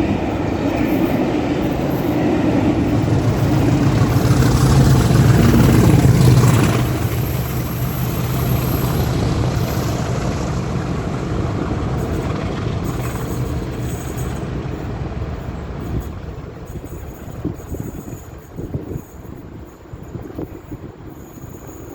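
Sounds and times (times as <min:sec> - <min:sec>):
diesel locomotive engine working hard: 0:00.0 - 0:21.9.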